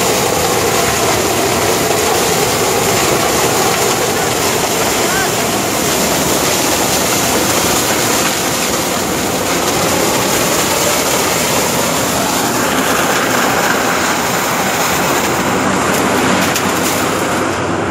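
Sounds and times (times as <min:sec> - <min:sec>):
harvester machine noise: 0:00.0 - 0:17.9.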